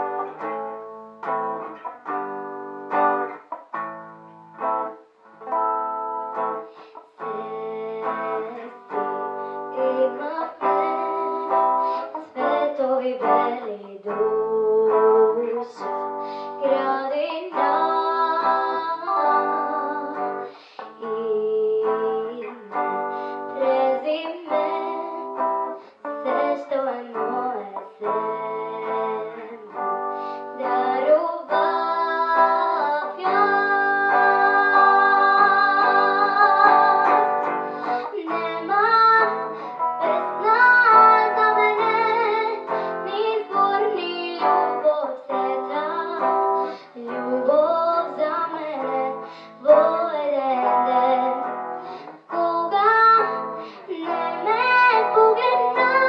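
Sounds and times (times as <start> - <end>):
electric guitar: 0.0 - 56.0
girl singing into microphone: 0.0 - 56.0.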